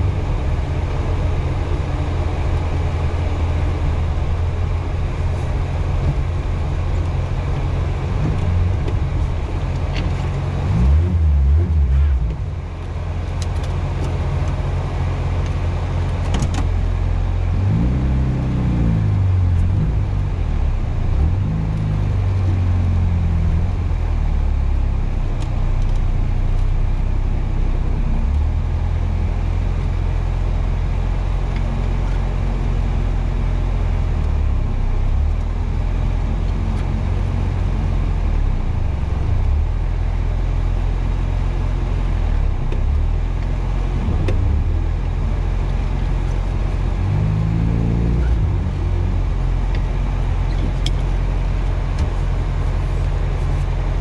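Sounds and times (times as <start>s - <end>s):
rally car engine under load: 0.0s - 54.0s.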